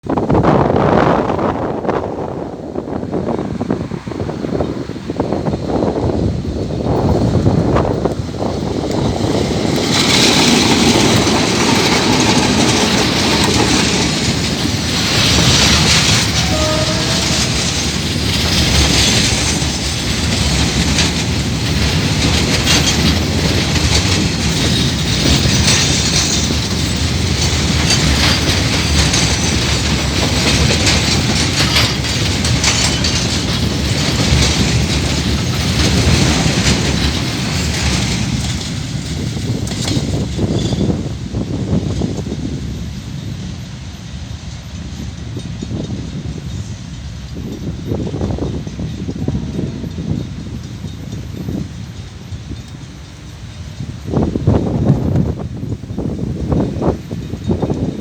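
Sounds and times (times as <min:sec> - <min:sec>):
train wagons rumbling past: 0:00.0 - 0:58.0
wheels clacking over rail joints: 0:02.8 - 0:58.0.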